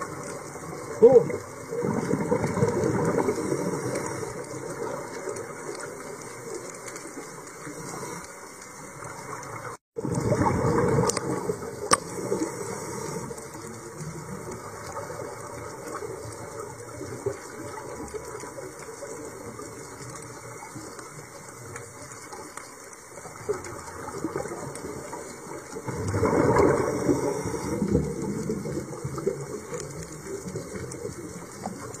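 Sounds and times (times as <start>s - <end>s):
underwater regulator bubbles: 0.0s - 22.5s, 23.1s - 32.0s.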